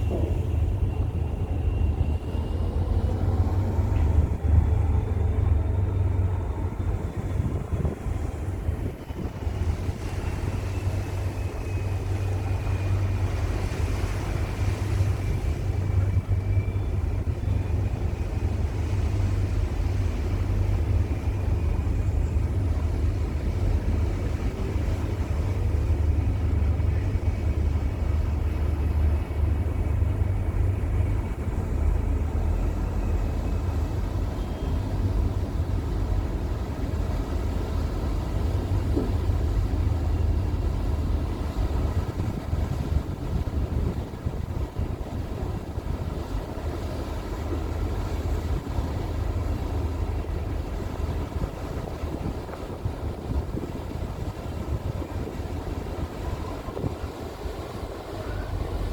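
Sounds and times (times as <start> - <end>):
ferry diesel engines rumbling: 0.0 - 58.9.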